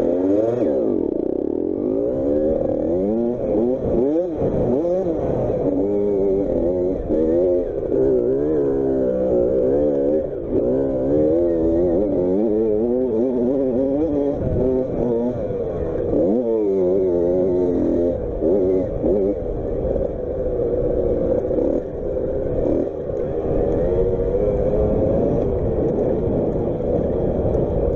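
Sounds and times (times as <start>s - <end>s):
motocross bike engine revving: 0.0s - 27.9s.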